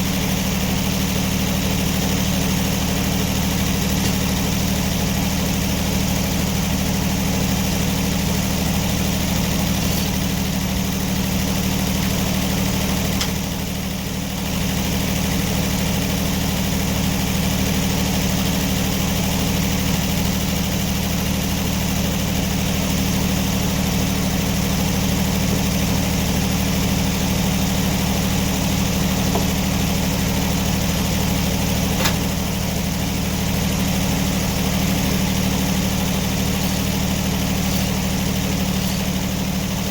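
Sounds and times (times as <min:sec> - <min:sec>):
engine running with low hum: 0:00.0 - 0:39.9.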